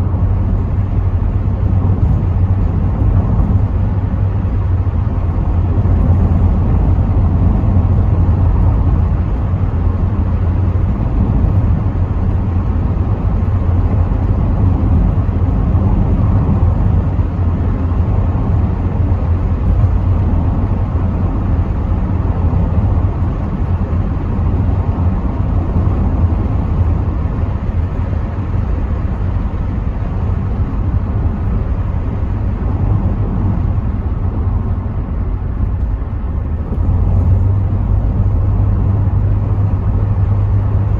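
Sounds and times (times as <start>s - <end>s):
car engine rumble: 0.0s - 40.9s
wind noise through windows: 0.0s - 40.9s.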